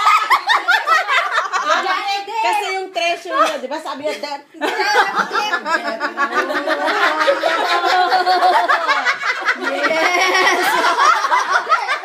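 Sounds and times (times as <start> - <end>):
people laughing: 0.0 - 2.4, 3.4 - 12.0.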